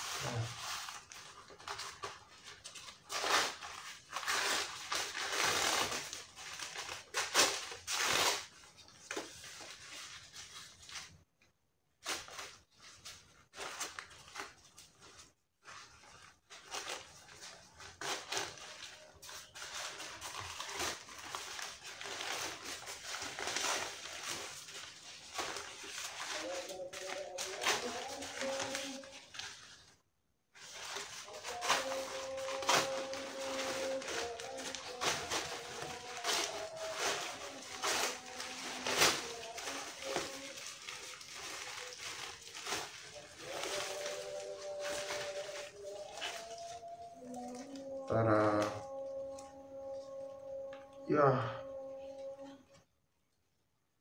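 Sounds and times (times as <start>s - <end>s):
paper wrapping rustling: 0.0s - 51.0s.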